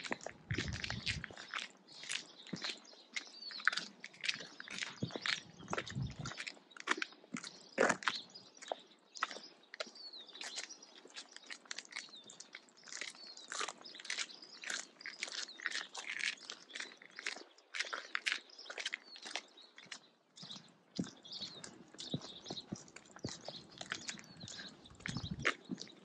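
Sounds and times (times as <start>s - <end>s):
footsteps crunching in snow: 0.0s - 26.0s.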